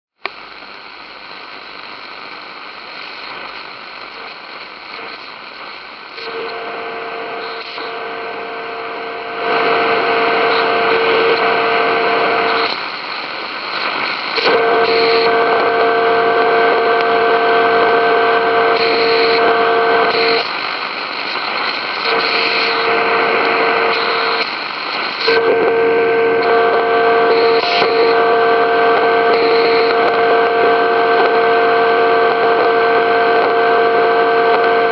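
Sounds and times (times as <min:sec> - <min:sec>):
droning radio tone: 0:00.2 - 0:34.9
radio static hiss: 0:00.2 - 0:34.9.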